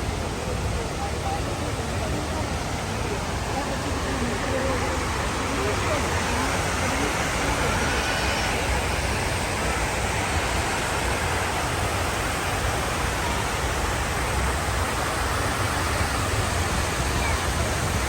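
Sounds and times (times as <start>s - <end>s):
water cascading down walls: 0.0s - 18.0s.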